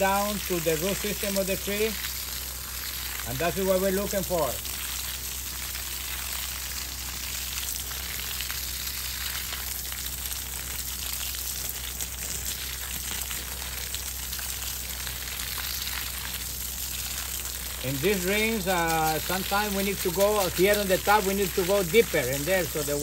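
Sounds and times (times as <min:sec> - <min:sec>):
hose spray pattering on mulch: 0:00.0 - 0:23.0.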